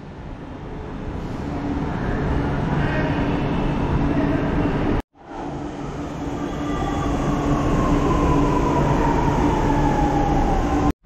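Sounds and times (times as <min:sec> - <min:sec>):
electric train rumbling on track: 0:00.0 - 0:10.9.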